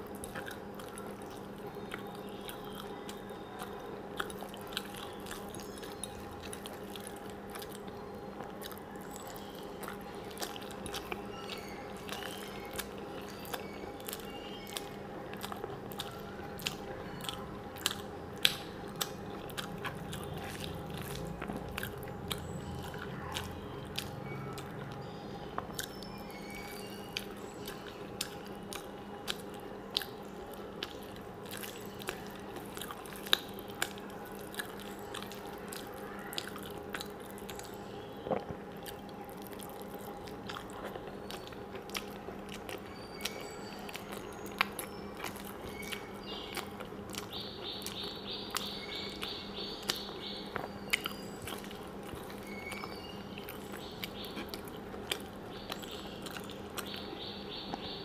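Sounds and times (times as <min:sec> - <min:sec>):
steady low hum: 0:00.0 - 0:58.0
wet chewing and mouth smacks: 0:00.0 - 0:58.0.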